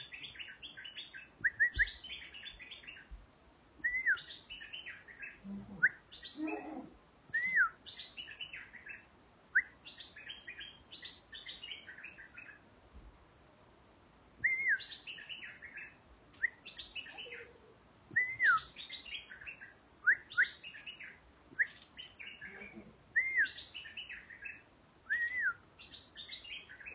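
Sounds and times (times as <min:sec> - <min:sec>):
bird singing chirping phrases: 0:00.0 - 0:03.2, 0:03.8 - 0:12.6, 0:14.5 - 0:26.9.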